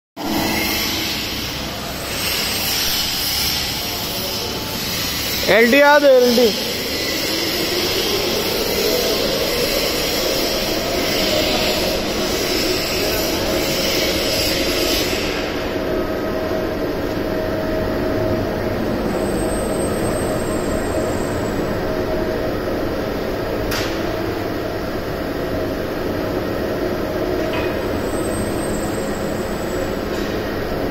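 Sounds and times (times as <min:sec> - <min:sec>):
crane motor whine and rumble: 0:00.2 - 0:30.9.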